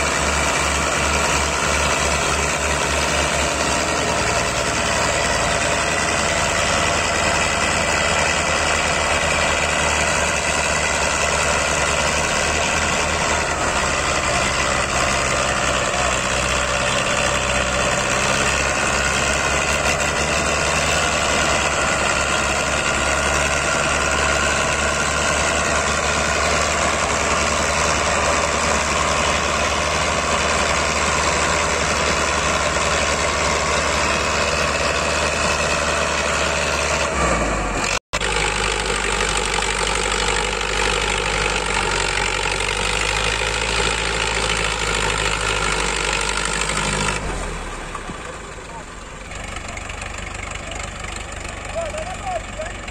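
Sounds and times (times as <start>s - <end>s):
tractor engines droning: 0.0s - 52.9s.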